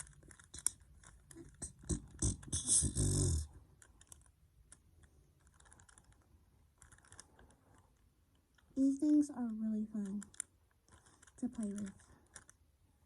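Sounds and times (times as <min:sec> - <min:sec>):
rubik's cube twisting clicks: 0:00.0 - 0:08.8, 0:09.9 - 0:12.6.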